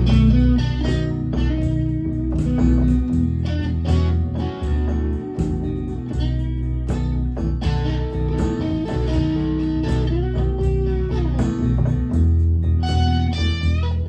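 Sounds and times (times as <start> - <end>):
blues guitar with bending notes: 0.0 - 14.0
low accompaniment: 0.0 - 14.0.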